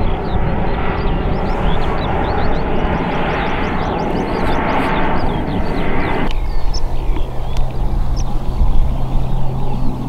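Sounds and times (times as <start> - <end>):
turboprop aircraft engines overhead: 0.0 - 10.0.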